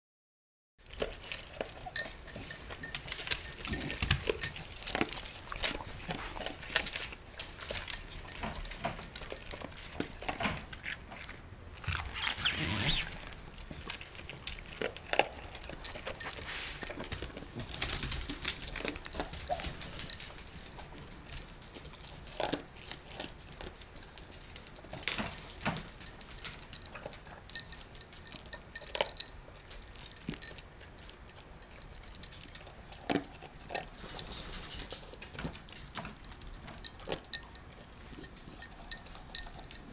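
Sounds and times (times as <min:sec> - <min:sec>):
dog eating from ceramic bowl: 0:00.8 - 0:39.9.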